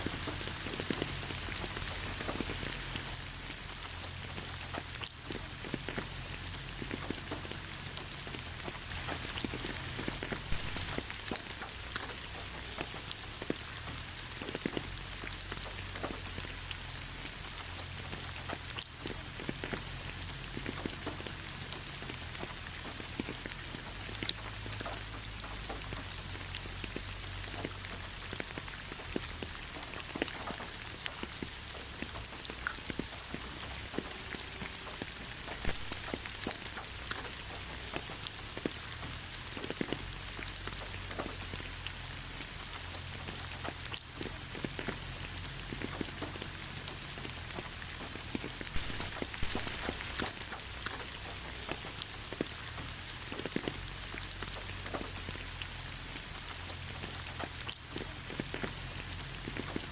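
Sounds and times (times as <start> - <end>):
raindrops ticking: 0.0 - 59.9
steady rain: 0.0 - 59.9.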